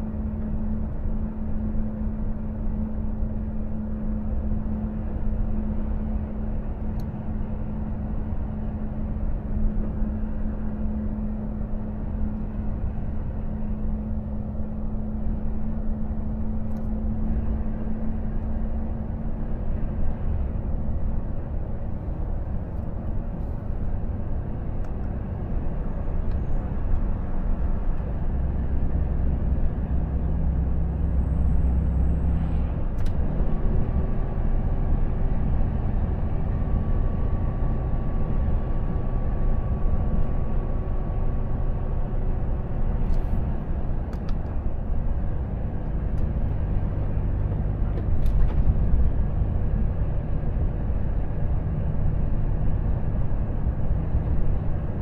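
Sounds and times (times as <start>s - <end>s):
truck engine drone: 0.0s - 55.0s.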